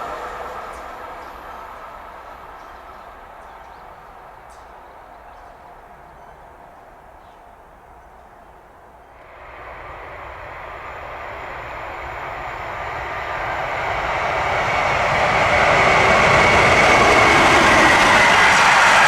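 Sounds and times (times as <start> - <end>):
train approaching: 0.0 - 19.0.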